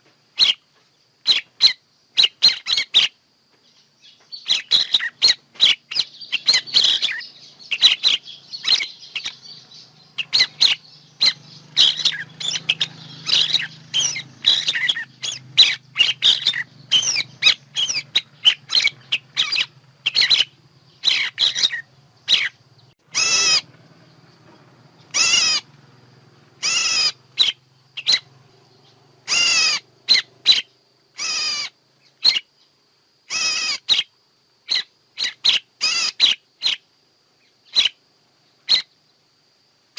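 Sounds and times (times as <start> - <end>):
songbird calls: 0.0 - 39.4.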